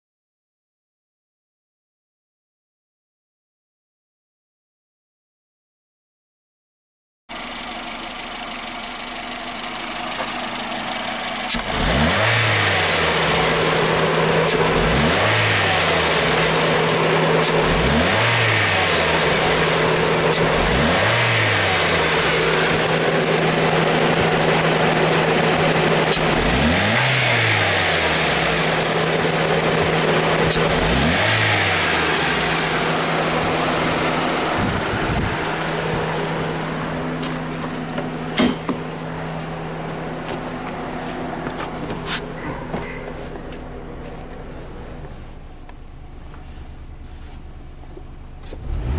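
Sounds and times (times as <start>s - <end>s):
car engine revving and idling: 7.3s - 48.9s.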